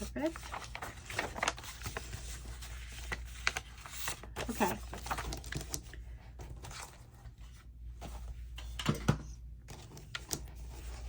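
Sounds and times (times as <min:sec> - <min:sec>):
paper rustling: 0:00.0 - 0:08.8, 0:09.7 - 0:11.0.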